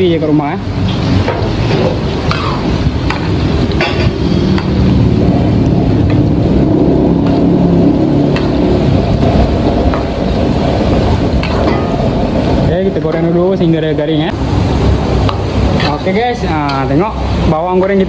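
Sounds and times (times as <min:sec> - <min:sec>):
deep-frying in hot oil: 0:00.0 - 0:18.0.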